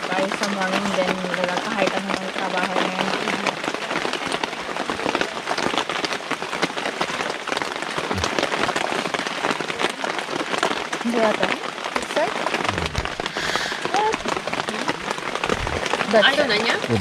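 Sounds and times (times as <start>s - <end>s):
rain drops ticking on a surface: 0.0s - 17.0s.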